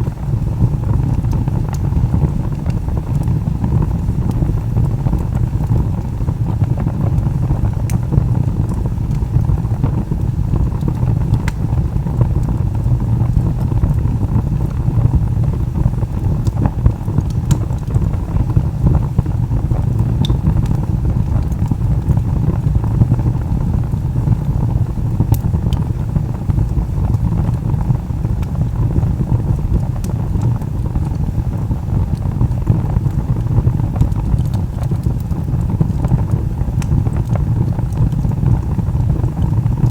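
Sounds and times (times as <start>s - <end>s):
fire crackles and pops: 0.0s - 39.9s
low rumble of flames: 0.0s - 39.9s.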